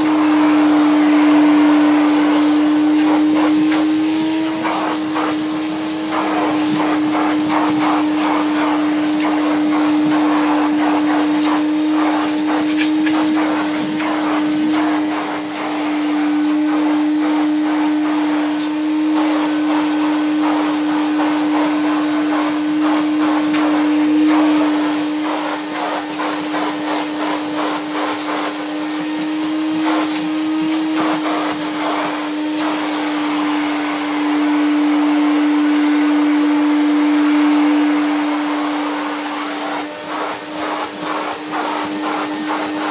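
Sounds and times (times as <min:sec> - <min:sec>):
vacuum cleaner motor humming: 0:00.0 - 0:42.9.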